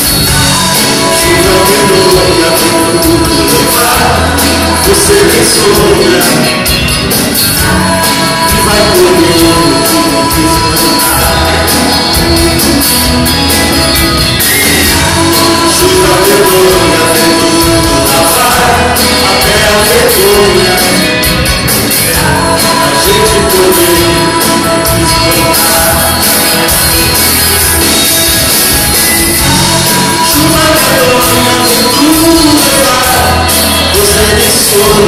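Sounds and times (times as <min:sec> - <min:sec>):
acoustic guitar: 0:00.0 - 0:35.0
electric guitar: 0:00.0 - 0:35.0
keyboard: 0:00.0 - 0:35.0.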